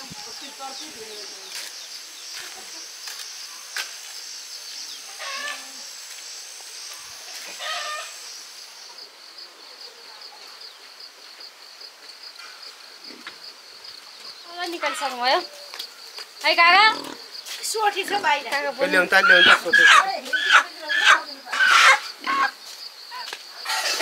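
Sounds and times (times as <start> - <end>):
insects buzzing high-pitched: 0.0 - 9.9, 10.5 - 24.0.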